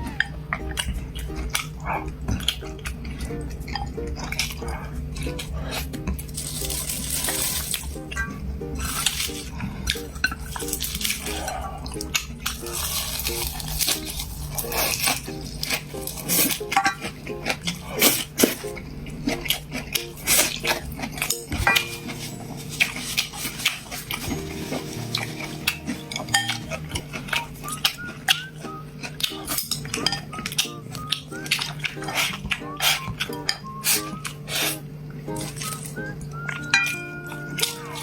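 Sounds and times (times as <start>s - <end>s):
utensils clinking on plates: 0.0s - 34.2s, 35.3s - 38.0s
quiet background music: 0.0s - 38.0s.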